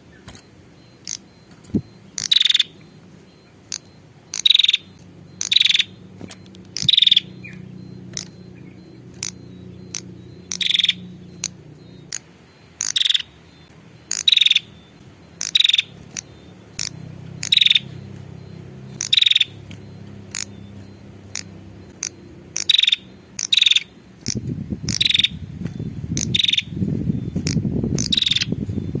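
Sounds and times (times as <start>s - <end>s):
bird calling high sharp notes: 0.0s - 29.0s
low steady background sound: 0.0s - 29.0s.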